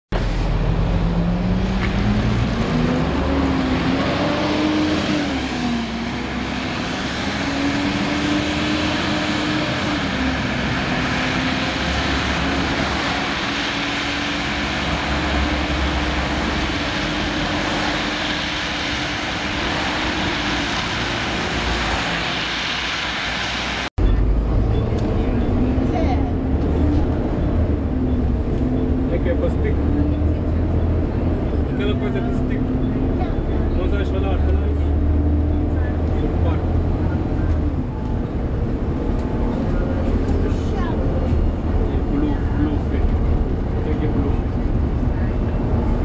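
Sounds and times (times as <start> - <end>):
engine rumble: 0.1 - 46.0
road noise: 0.1 - 46.0
bus cooling fan whine: 0.2 - 46.0.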